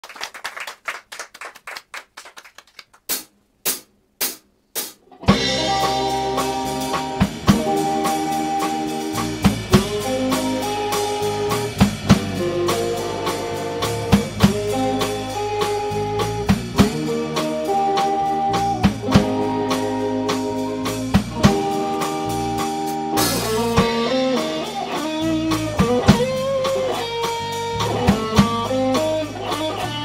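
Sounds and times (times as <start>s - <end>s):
rock band playing: 4.8s - 30.0s.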